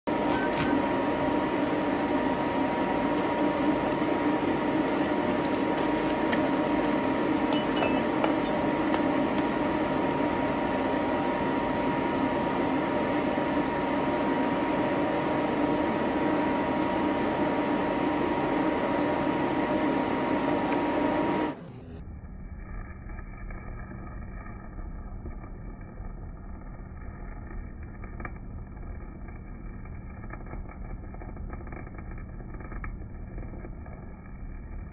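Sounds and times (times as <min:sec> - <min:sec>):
welding machine humming: 0:00.0 - 0:34.9.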